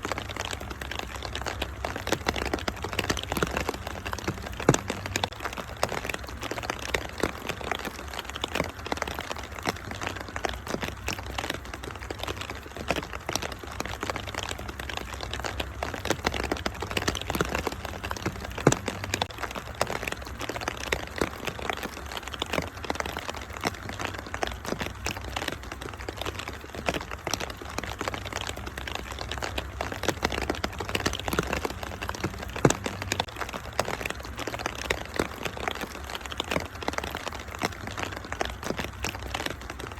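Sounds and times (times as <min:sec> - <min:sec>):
rain hissing: 0:00.0 - 0:39.9
wood fire crackling and popping: 0:00.0 - 0:39.9.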